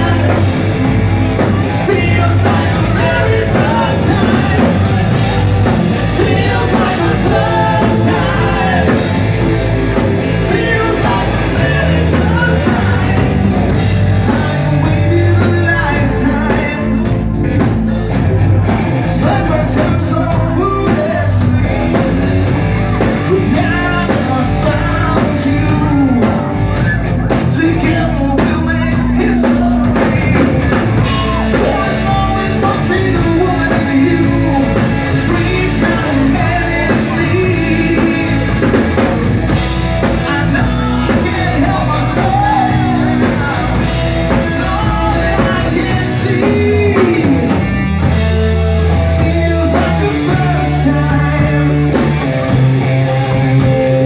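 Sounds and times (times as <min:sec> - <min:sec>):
man singing: 0:00.0 - 0:17.4, 0:18.6 - 0:54.0
bass guitar: 0:00.0 - 0:54.0
drum kit: 0:00.0 - 0:54.0
electric guitar: 0:00.0 - 0:54.0.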